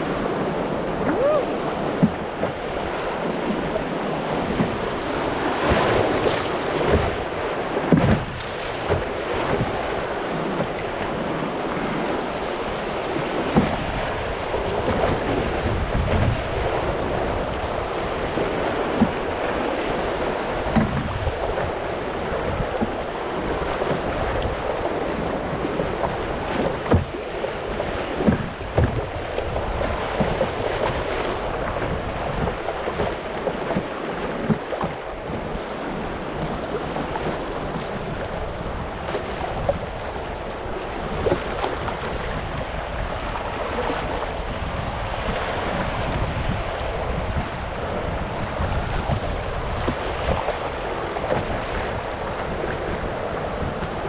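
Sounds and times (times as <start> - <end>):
river rapids rushing: 0.0 - 54.0.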